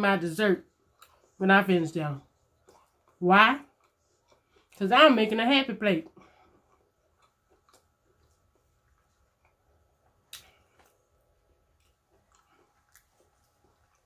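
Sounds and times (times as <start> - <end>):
wet chewing sounds: 0.6 - 1.4, 2.1 - 5.2, 5.9 - 14.0.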